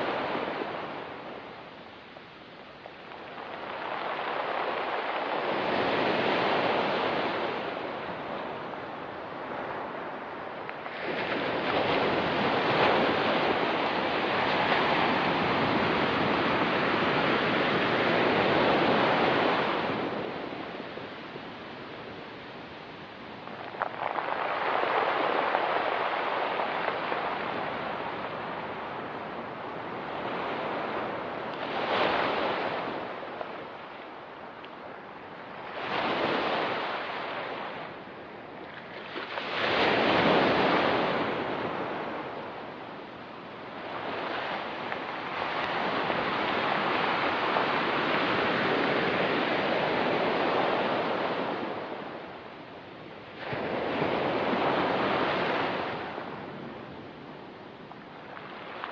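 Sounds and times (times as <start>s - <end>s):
ocean waves breaking on rocky beach: 0.0s - 58.9s.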